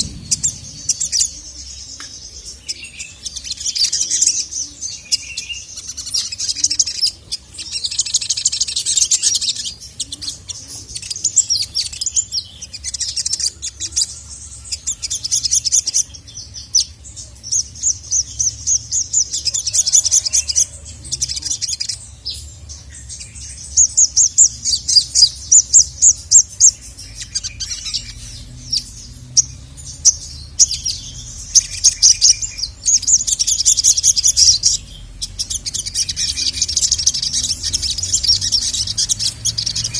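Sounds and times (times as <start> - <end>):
sunbird chirping trills: 0.0 - 39.9.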